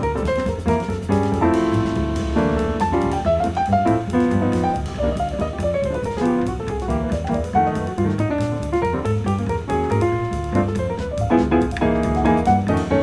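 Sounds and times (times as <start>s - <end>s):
drum kit with cymbals: 0.0s - 13.0s
jazz piano: 0.0s - 13.0s
upright double bass: 0.0s - 13.0s.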